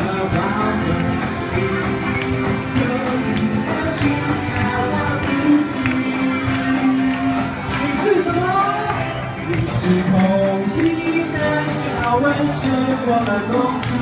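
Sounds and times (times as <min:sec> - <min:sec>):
acoustic guitar strumming: 0:00.0 - 0:14.0
person singing: 0:00.0 - 0:14.0.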